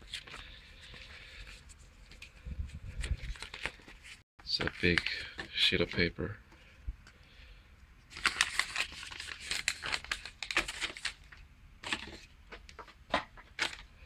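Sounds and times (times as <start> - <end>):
paper rustling and crinkling: 0.0 - 6.1, 8.1 - 13.9.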